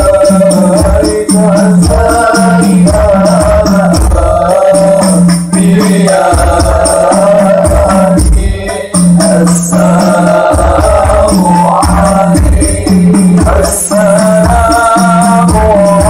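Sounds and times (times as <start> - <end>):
men chanting through a pa: 0.0 - 16.0
percussion: 0.0 - 16.0.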